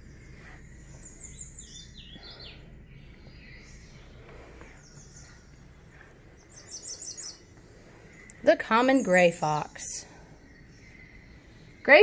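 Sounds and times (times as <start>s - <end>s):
faint bird chirping: 0.0s - 12.0s
low steady hum: 0.0s - 12.0s.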